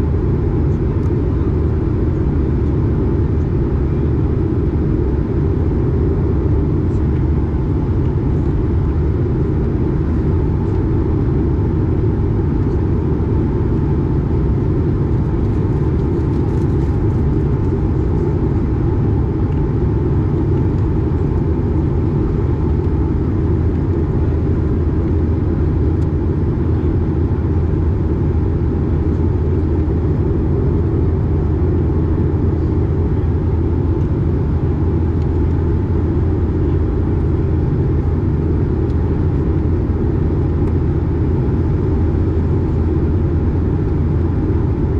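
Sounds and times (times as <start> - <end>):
airplane cabin drone: 0.0 - 44.9
faint steady hum: 0.0 - 44.9.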